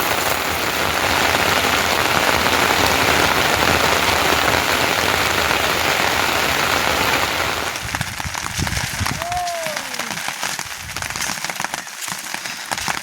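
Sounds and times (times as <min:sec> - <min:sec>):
heavy rain falling: 0:00.0 - 0:11.7.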